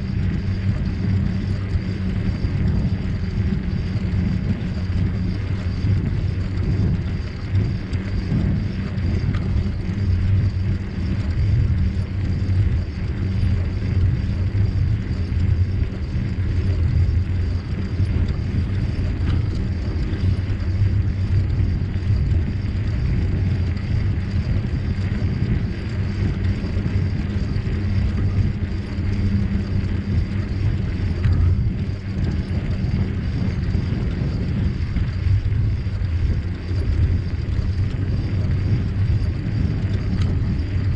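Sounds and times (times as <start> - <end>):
bicycle riding rumble: 0.0 - 40.9
wind buffeting microphone: 0.0 - 40.9.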